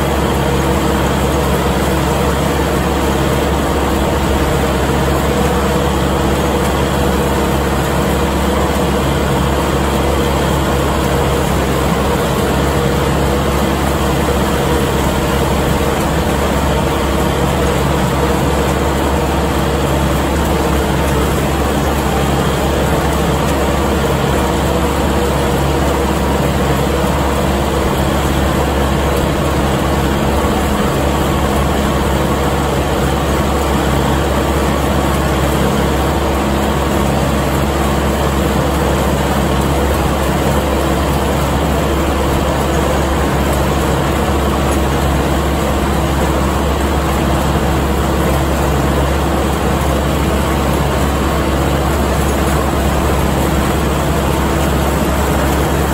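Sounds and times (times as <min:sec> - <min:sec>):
mower-conditioner cutting hay: 0:00.0 - 0:55.9
tractor diesel engine running: 0:00.0 - 0:55.9.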